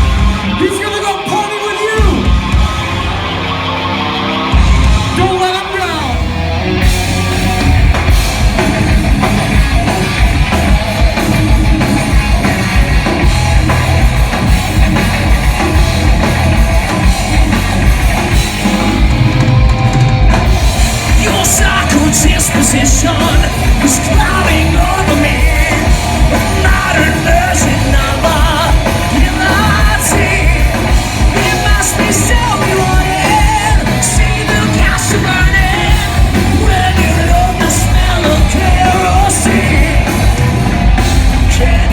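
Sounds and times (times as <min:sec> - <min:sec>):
yelled sung vocals: 0:00.0 - 0:41.9
pounding drums: 0:06.8 - 0:41.9.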